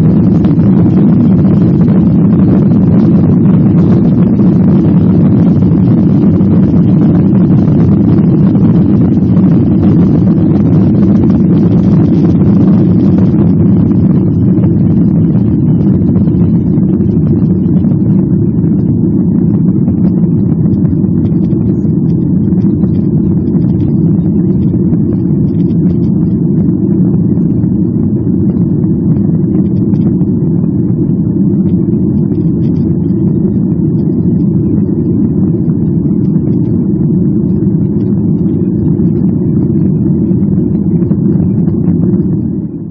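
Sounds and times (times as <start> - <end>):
jet engines and airflow in cabin: 0.0 - 42.9.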